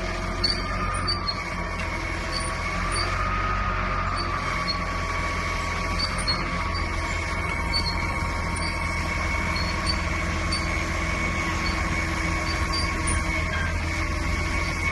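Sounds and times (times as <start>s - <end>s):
wheel loader diesel engine running: 0.0s - 14.9s.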